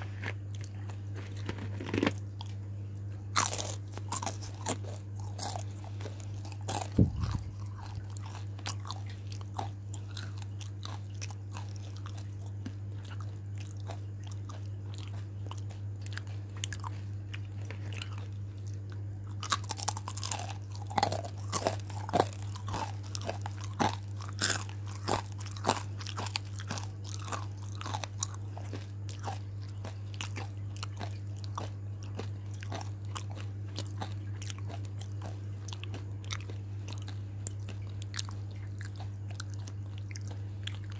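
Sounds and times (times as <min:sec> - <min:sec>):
crunchy chewing of fried food: 0:00.0 - 0:40.9
steady low hum: 0:00.0 - 0:40.9.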